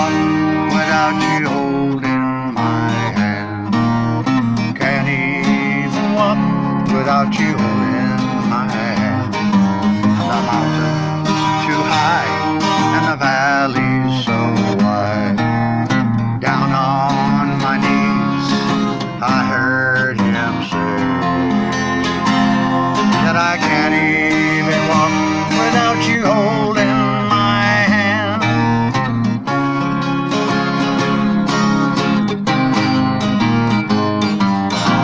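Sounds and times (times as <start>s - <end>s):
strummed acoustic guitar chords: 0.0s - 35.0s
wavering lead melody: 0.0s - 35.0s.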